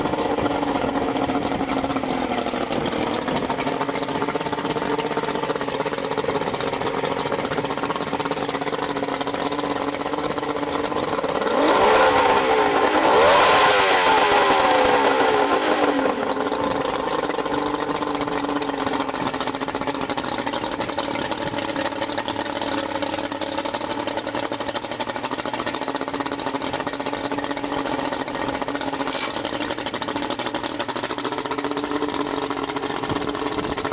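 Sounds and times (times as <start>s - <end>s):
boat engine idling and revving: 0.0s - 33.9s.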